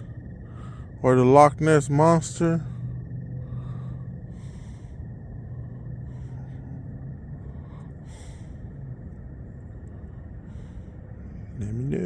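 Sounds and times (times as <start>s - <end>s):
person breathing: 0.0s - 1.0s, 2.6s - 12.0s
low hum: 0.0s - 12.0s.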